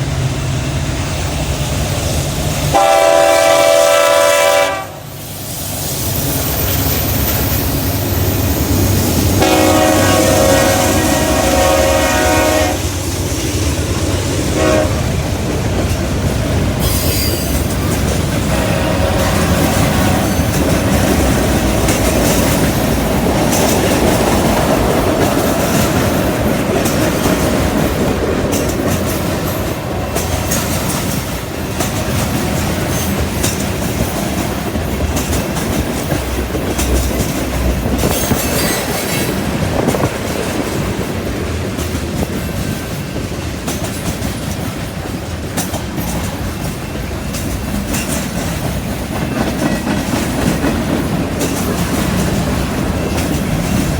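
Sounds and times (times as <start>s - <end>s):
train wheels clicking over rails: 4.7s - 53.9s.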